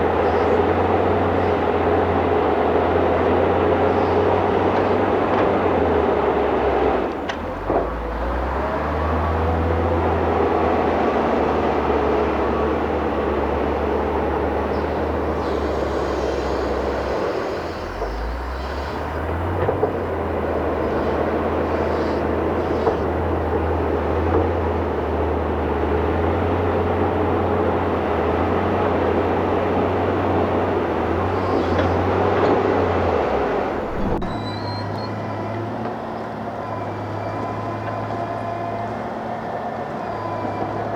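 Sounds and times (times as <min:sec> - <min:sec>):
heavy diesel engine under load: 0:00.0 - 0:40.9.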